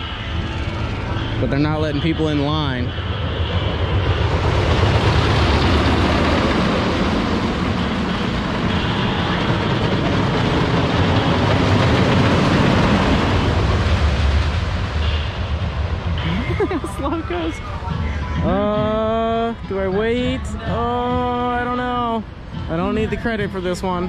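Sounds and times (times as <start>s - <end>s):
roller coaster rumble and clatter: 0.0s - 24.0s.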